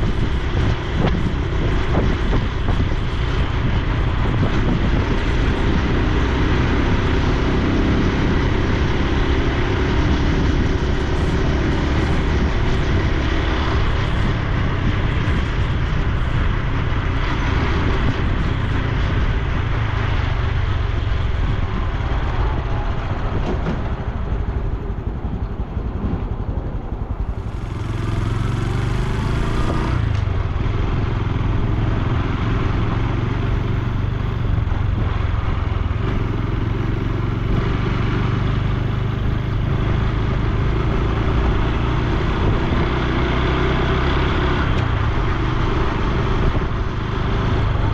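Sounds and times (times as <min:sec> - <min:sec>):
motorcycle engine and exhaust: 0:00.0 - 0:47.9
road noise: 0:00.0 - 0:47.9
wind noise: 0:00.0 - 0:47.9.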